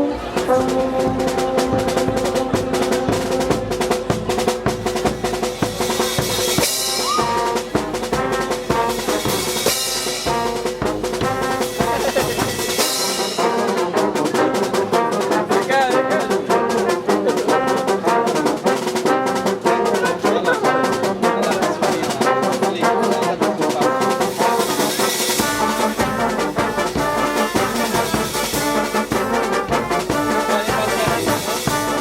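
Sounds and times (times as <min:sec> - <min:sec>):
brass orchestra playing: 0:00.0 - 0:32.0.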